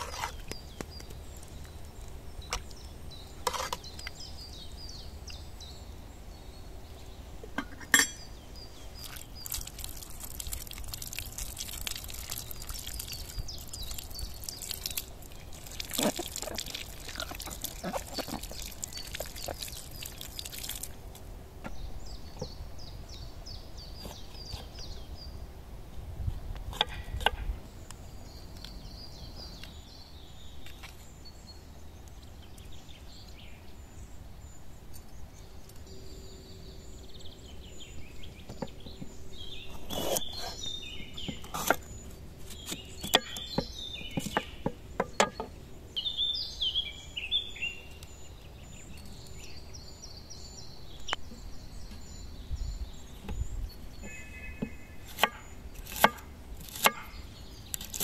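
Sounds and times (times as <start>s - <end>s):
low outdoor background: 0.0s - 58.0s
songbirds chirping: 0.0s - 58.0s.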